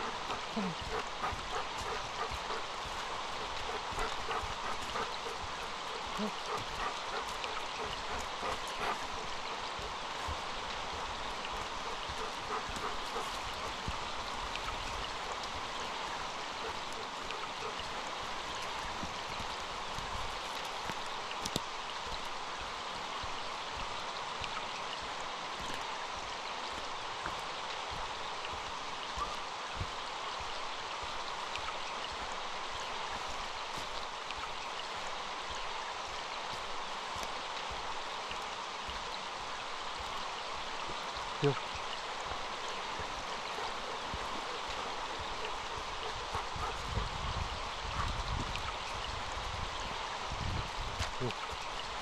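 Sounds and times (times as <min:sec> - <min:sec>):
stream babbling: 0:00.0 - 0:52.0.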